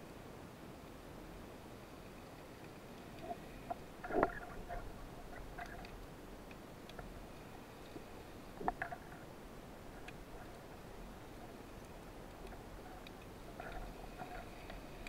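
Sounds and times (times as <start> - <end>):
faint underwater hiss: 1.7 - 15.0.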